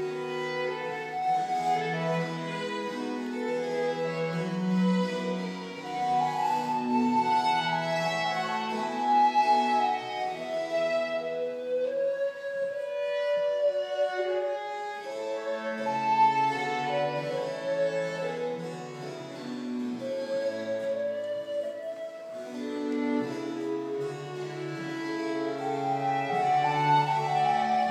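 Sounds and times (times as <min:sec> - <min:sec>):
chamber quartet playing: 0:00.0 - 0:27.9.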